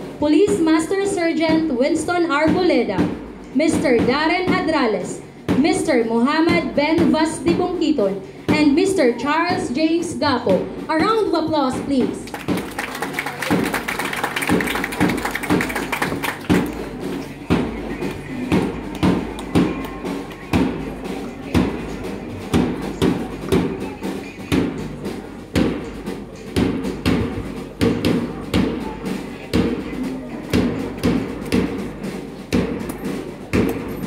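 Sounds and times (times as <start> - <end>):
march music with drumbeat: 0.0 - 34.0.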